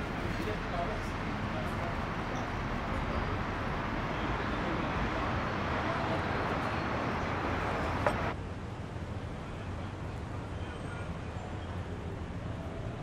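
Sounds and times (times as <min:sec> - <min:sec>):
open-air cafe background noise: 0:00.0 - 0:13.0
traffic: 0:00.0 - 0:13.0.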